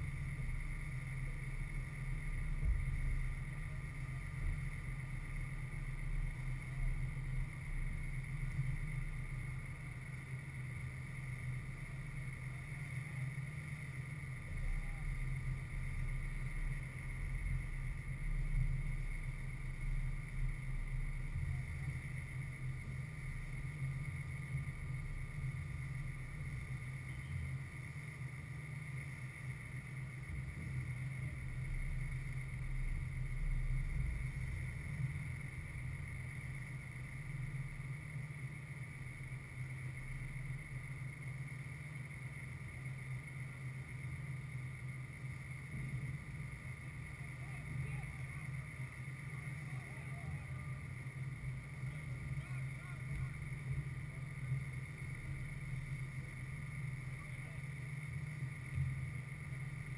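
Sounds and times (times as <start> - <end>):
faint high-pitched tones: 0.0 - 59.9
low uneven rumble: 0.0 - 59.9.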